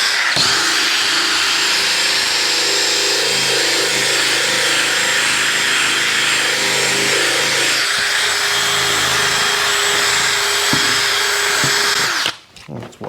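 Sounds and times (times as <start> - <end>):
electric drill motor whine: 0.0 - 12.3.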